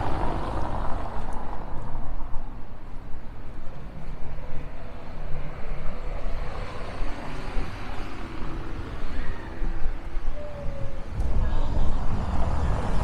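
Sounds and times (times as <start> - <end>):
street noise: 0.0 - 13.0
traffic rumble: 0.0 - 13.0.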